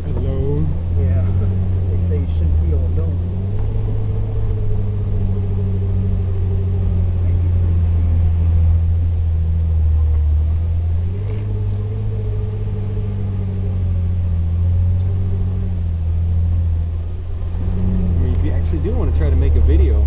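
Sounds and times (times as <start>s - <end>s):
car engine running: 0.0s - 20.0s
engine whine: 0.0s - 20.0s.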